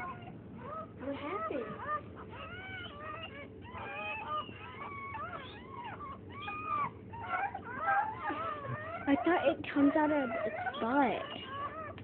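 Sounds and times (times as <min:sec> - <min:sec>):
puppies squealing: 0:00.0 - 0:12.0.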